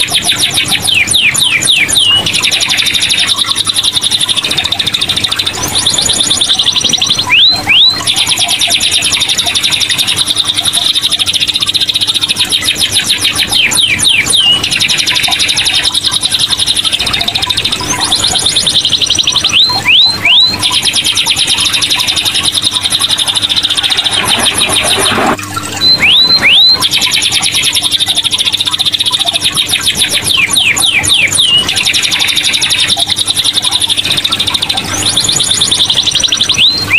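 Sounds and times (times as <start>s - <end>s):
canary trilling: 0.0s - 36.9s
canary whistled notes: 0.0s - 36.9s.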